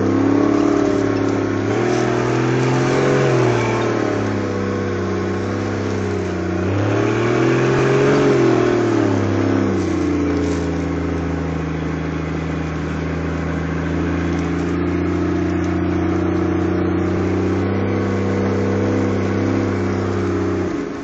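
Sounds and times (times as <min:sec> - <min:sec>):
vehicle engine from inside cabin: 0:00.0 - 0:21.0.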